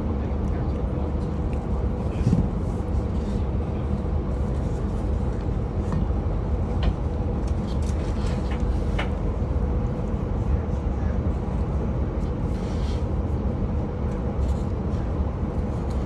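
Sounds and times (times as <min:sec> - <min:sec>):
train carriage rumble and hum: 0:00.0 - 0:16.0.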